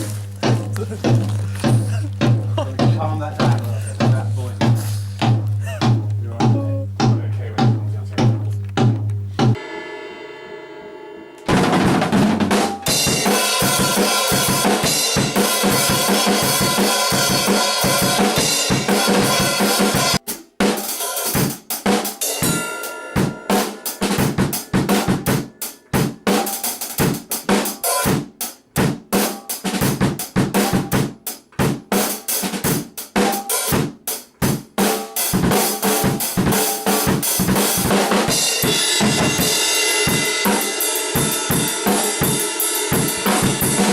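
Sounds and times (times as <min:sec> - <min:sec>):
drum kit played hard: 0:00.0 - 0:43.9.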